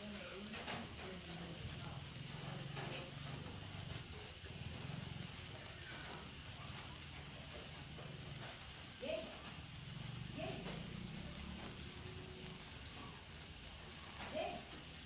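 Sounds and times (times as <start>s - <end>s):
sparklers fizzing and crackling: 0.0s - 15.0s.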